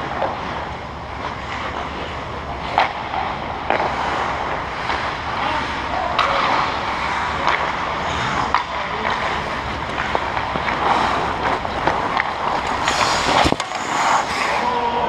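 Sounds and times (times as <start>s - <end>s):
hockey sticks and puck clacking: 0.0s - 15.0s
skates scraping on ice: 0.0s - 15.0s.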